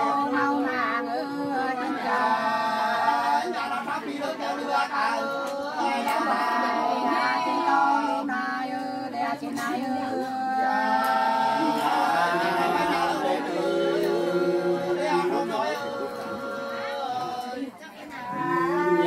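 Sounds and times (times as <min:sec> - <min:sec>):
unaccompanied folk duet singing: 0:00.0 - 0:19.0.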